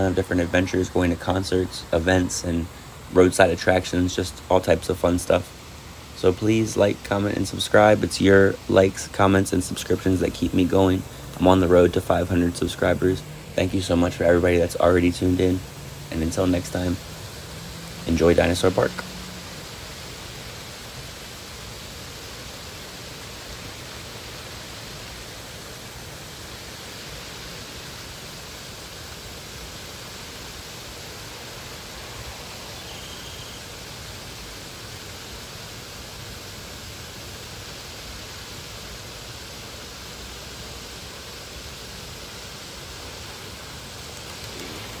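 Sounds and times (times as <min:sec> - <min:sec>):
steady rushing noise: 0:00.0 - 0:45.0.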